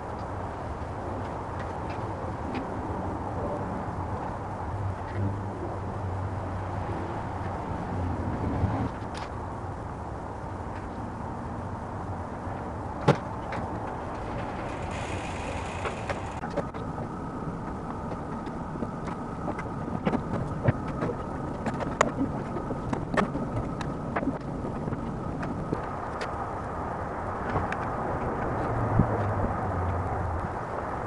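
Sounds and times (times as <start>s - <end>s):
faint steady whine: 0.0s - 31.0s
steady hum and hiss: 0.0s - 31.0s.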